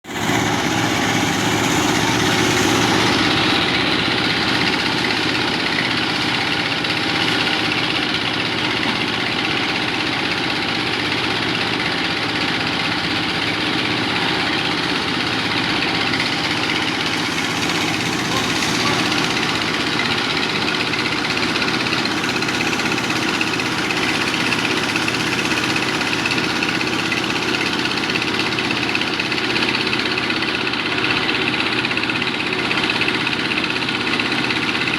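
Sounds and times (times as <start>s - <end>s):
construction engine running steadily: 0.0s - 34.9s.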